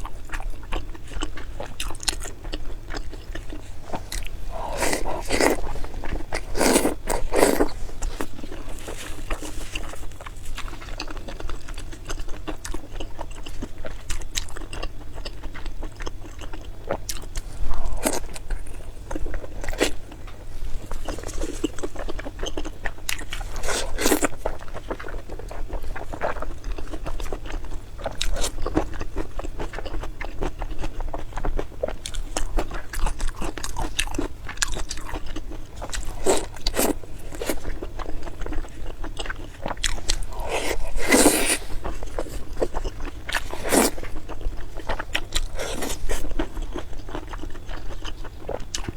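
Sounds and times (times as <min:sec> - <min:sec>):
crunchy chewing: 0:00.0 - 0:48.9.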